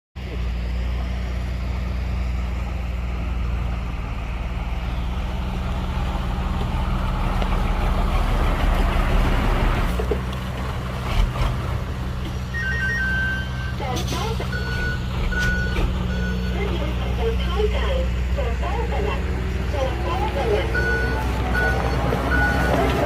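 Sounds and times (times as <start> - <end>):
heavy machinery diesel engine: 0.2 - 23.0.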